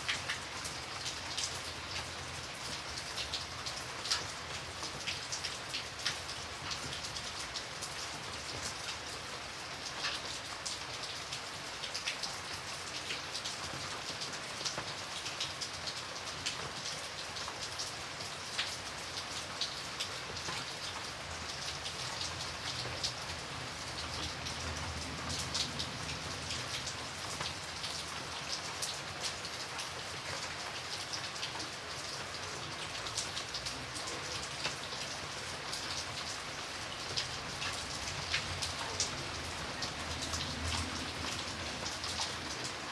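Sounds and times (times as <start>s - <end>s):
rain tapping on window: 0.1s - 42.9s.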